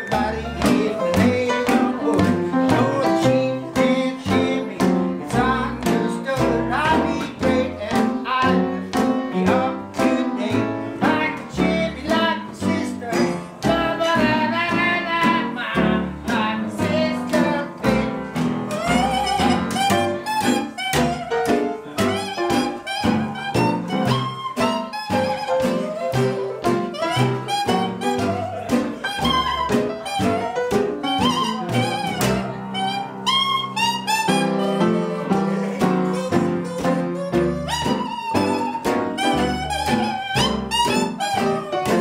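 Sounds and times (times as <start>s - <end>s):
acoustic guitar: 0.0s - 42.0s
upright piano: 0.0s - 42.0s.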